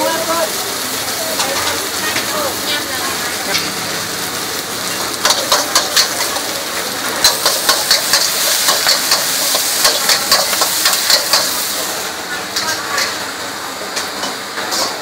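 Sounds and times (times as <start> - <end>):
frying sizzle: 0.0 - 15.0.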